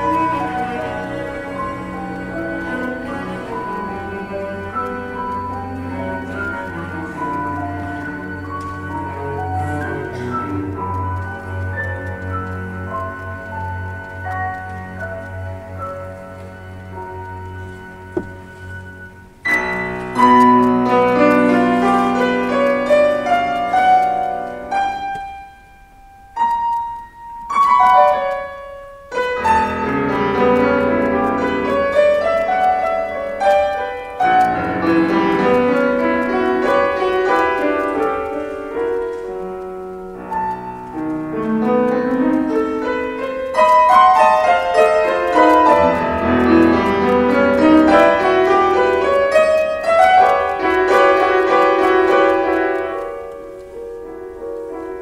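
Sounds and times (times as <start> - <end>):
piano playing chords and runs: 0.0 - 55.0.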